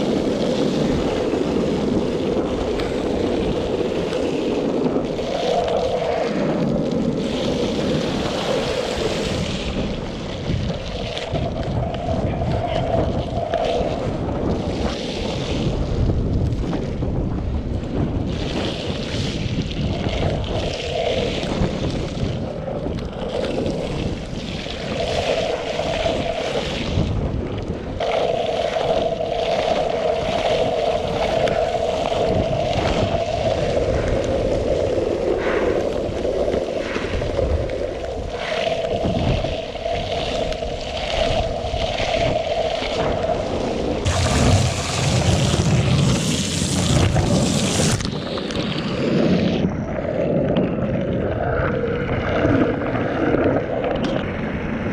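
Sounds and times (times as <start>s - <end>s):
skateboard wheels rolling on wet pavement: 0.0s - 54.9s
wind rushing over microphone: 0.0s - 54.9s.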